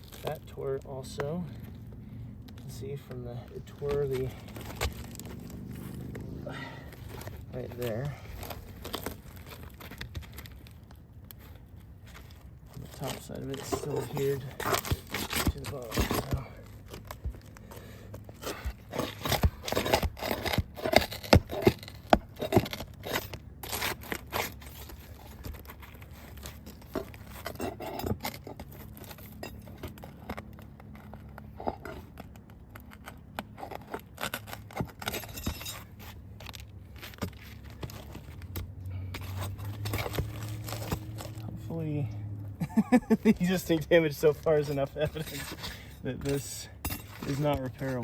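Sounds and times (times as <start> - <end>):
roof shingle scraping and tearing: 0.0 - 48.0.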